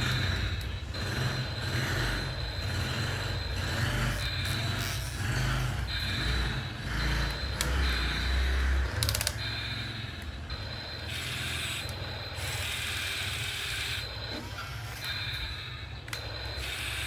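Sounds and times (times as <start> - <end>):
excavator mechanical whir: 0.0 - 17.0.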